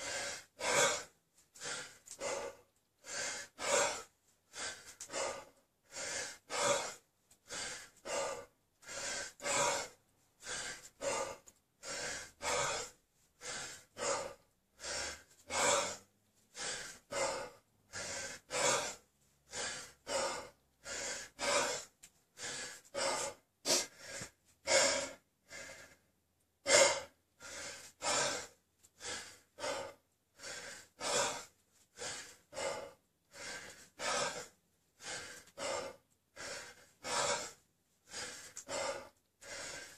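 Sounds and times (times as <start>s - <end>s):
man breathing hard: 0.0s - 39.9s.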